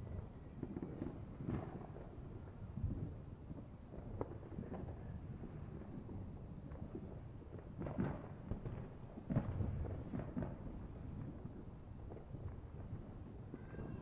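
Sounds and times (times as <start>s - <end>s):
cricket trill: 0.0s - 14.0s
distant fireworks booming: 0.0s - 14.0s
small firework pops: 0.4s - 14.0s.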